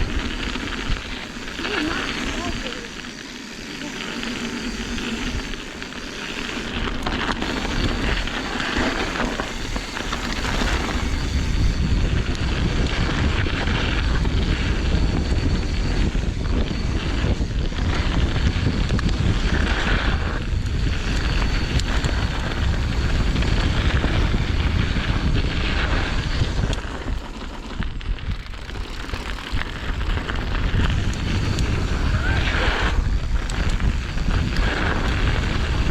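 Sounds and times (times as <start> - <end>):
bike rolling on dirt trail: 0.0 - 35.9
wind buffeting microphone: 0.0 - 35.9.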